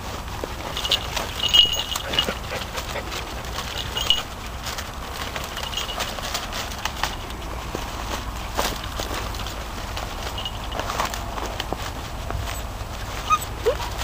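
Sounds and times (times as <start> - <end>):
rustle of twigs and leaves: 0.0 - 14.0.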